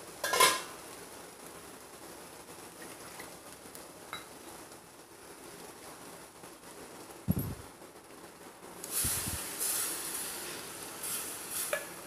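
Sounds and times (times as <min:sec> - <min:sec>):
water sizzling in hot pan: 0:00.0 - 0:12.0.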